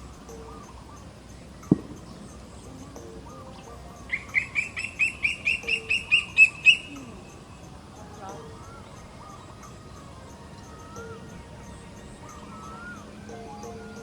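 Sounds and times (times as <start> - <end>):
bird calling rapid notes: 0.0 - 14.0.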